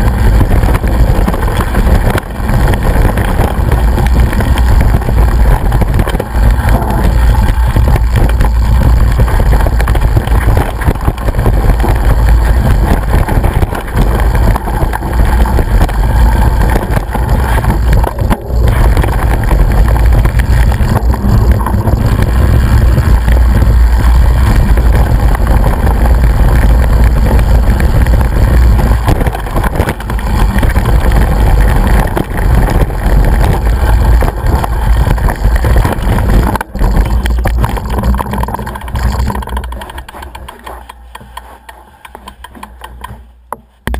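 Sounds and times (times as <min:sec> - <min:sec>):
wind buffeting microphone: 0:00.0 - 0:40.5
rumble and rattle of jolting: 0:00.0 - 0:43.9.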